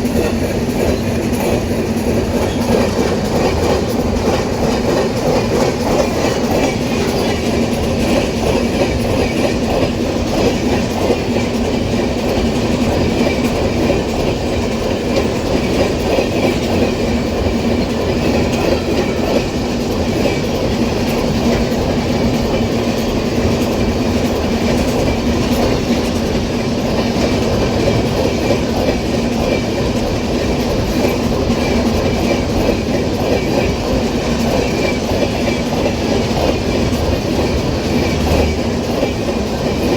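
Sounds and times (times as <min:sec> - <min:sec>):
train rumble: 0:00.0 - 0:39.9
wheels clacking over rail joints: 0:00.0 - 0:39.9.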